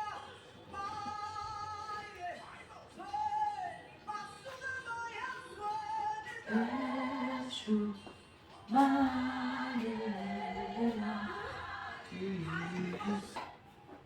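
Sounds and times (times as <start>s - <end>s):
person singing slow melody: 0.8s - 13.5s.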